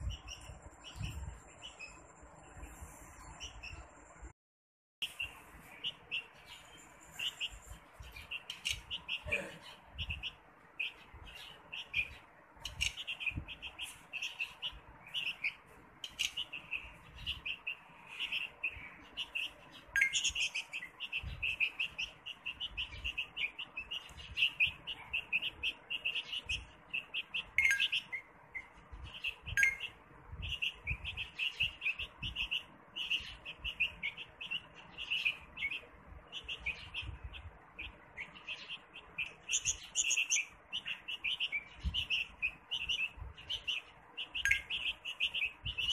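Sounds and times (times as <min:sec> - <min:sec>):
small birds chirping: 0:00.0 - 0:04.3, 0:05.0 - 0:45.9.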